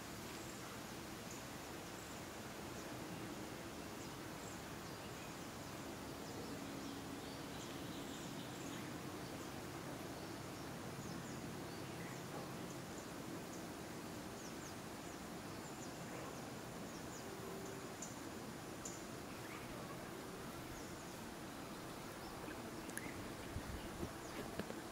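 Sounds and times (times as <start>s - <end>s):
steady low hiss: 0.0s - 24.9s.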